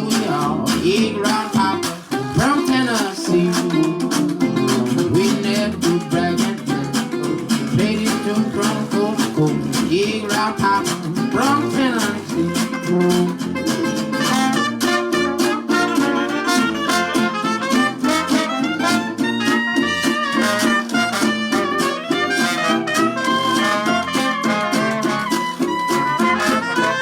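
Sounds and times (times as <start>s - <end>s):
strummed guitar: 0.0s - 27.0s
tuba bass line: 0.0s - 27.0s
jazz band playing: 3.2s - 27.0s.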